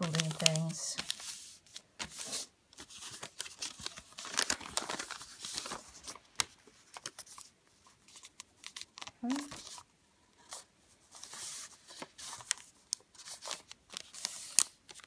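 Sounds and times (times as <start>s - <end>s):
paper rustling and crackling: 0.0s - 15.0s.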